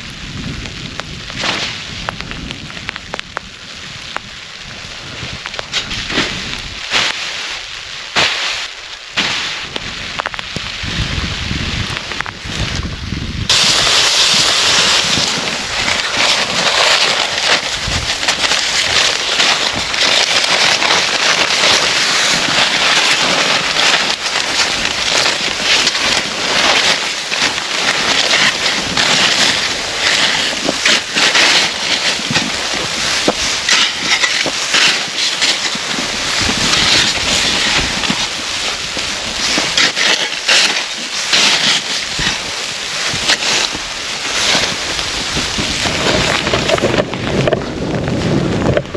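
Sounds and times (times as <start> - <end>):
strong wind rushing in gusts: 0.0 - 48.9.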